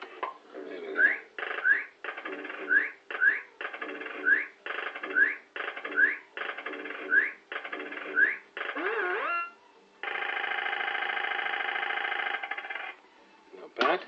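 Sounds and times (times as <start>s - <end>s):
fruit machine electronic tones: 0.9s - 13.0s.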